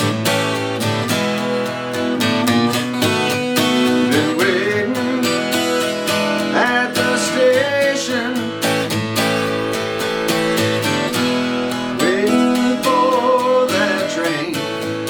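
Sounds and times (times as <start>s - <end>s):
acoustic guitar strumming: 0.0s - 15.0s
sliding guitar melody: 0.0s - 15.0s.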